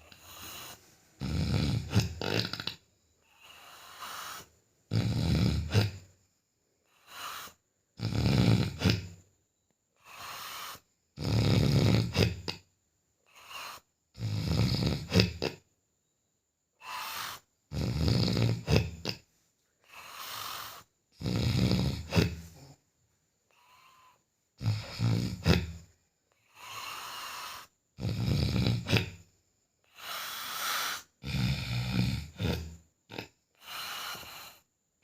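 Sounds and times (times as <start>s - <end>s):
loud snoring: 0.0s - 6.2s, 6.8s - 9.3s, 10.0s - 15.6s, 16.8s - 22.8s, 23.5s - 29.3s, 29.9s - 34.7s.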